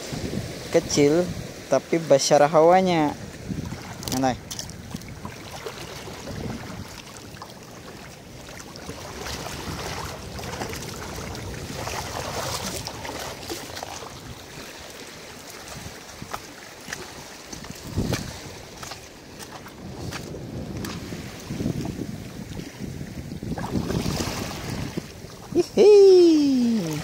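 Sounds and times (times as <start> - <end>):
wind buffeting microphone: 0.0 - 2.0, 2.7 - 27.0
small waves washing among boulders: 0.0 - 27.0.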